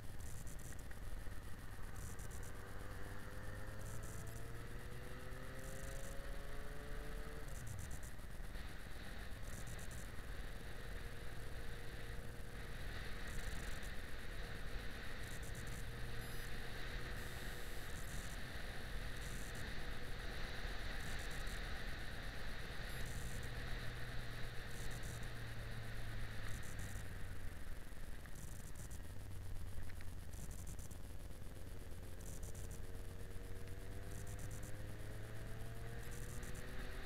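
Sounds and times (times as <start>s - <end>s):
motorcycle engine cruising: 0.0s - 37.0s
wind and road noise: 0.0s - 37.0s.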